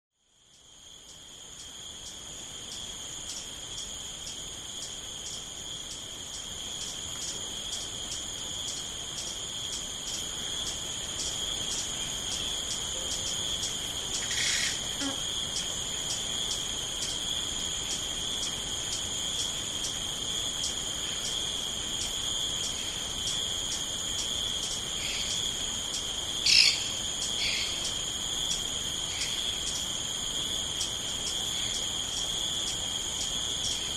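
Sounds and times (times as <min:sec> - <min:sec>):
insects trilling: 0:00.3 - 0:33.9.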